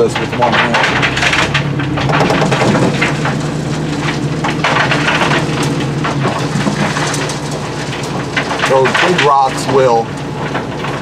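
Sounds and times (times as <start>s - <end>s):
excavator engine humming: 0.0s - 11.0s
rocks rattling into steel hopper: 0.0s - 11.0s.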